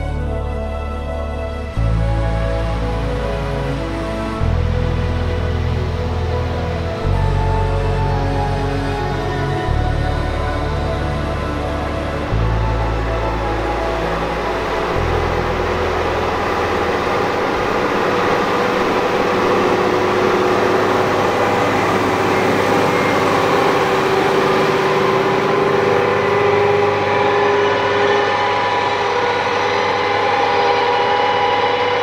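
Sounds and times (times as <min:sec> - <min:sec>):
whining machinery tones: 0:00.0 - 0:32.0.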